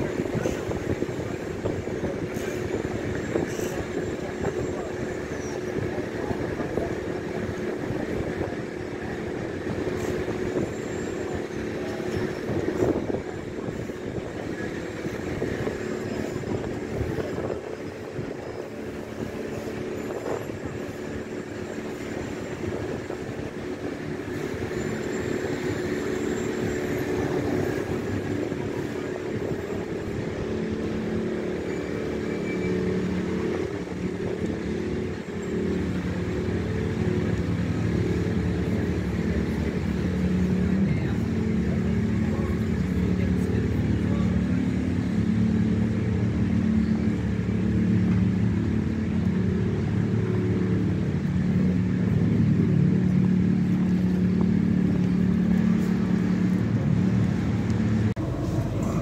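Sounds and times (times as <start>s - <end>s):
low engine drone: 0.0s - 59.0s
vehicle engines and tyres hum: 0.0s - 59.0s.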